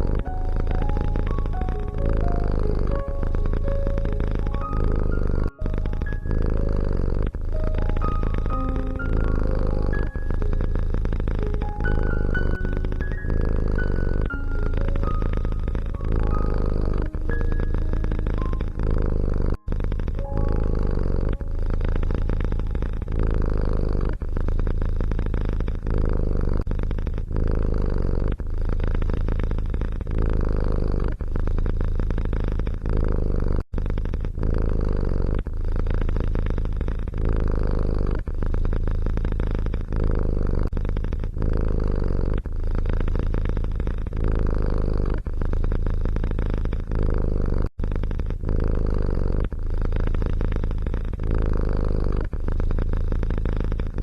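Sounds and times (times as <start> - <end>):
cat purring loudly: 0.0 - 54.0.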